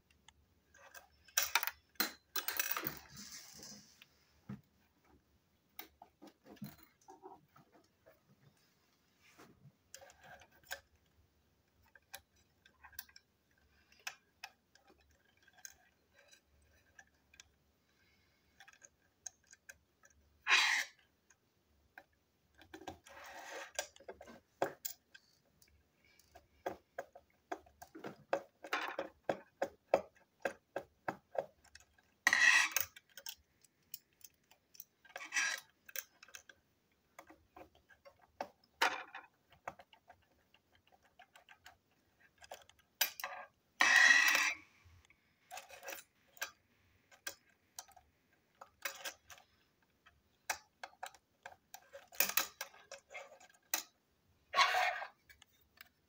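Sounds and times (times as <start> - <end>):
tool scraping plastic parts: 9.2 - 11.1, 11.8 - 56.0.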